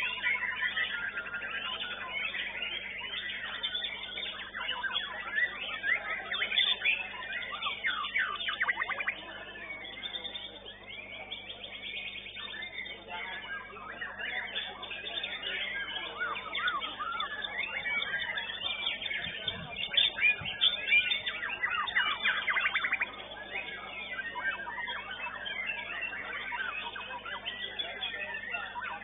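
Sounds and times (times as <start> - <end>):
bird singing whistled phrases: 0.0 - 29.0.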